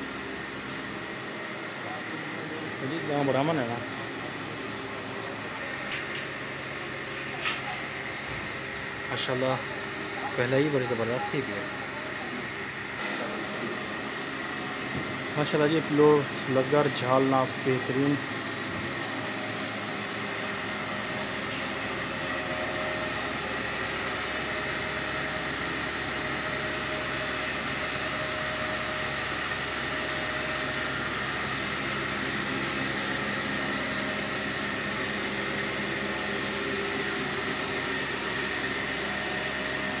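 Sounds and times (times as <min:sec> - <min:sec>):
fan motor whirring: 0:00.0 - 0:40.0.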